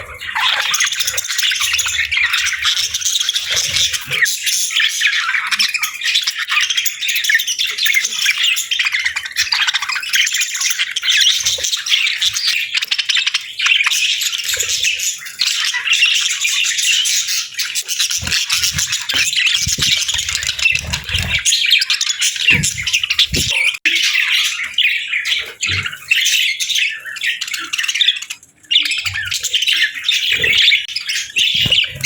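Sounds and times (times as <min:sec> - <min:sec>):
flock of budgerigars chirping: 0:00.0 - 0:32.0.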